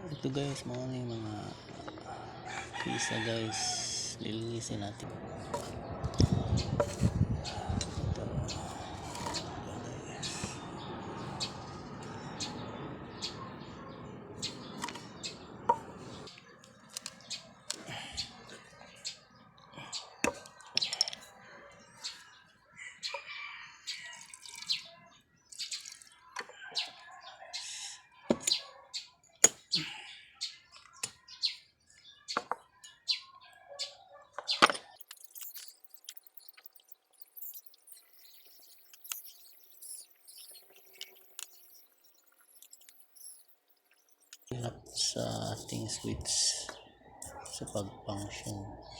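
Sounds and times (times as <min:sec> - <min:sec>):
bird chirping: 0:03.3 - 0:48.9.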